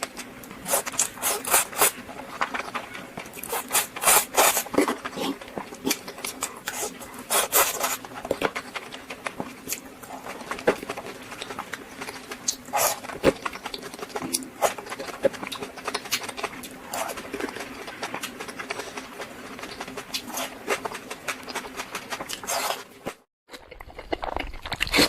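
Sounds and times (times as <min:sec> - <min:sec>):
crunchy crackles: 0:00.0 - 0:25.0.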